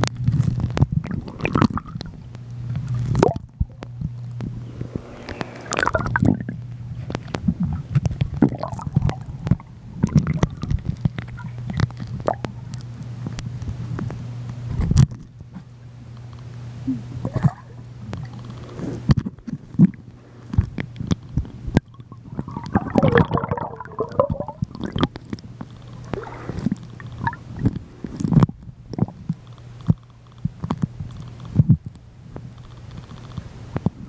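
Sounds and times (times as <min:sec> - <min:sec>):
underwater gurgling and bubbling: 0:00.0 - 0:14.2, 0:16.8 - 0:34.0
underwater knocks and clicks: 0:00.0 - 0:16.5, 0:17.2 - 0:34.0
low hum: 0:00.0 - 0:34.0.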